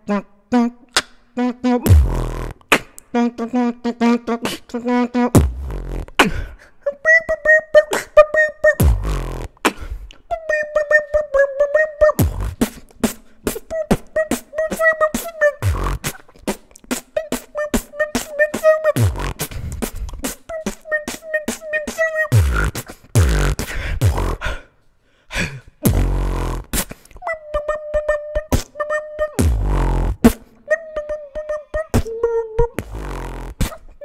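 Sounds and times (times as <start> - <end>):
beatboxed bass drops: 0.0 - 6.6, 7.2 - 24.6, 25.8 - 34.0
beatboxing clicks and snares: 0.0 - 24.9, 25.7 - 34.0.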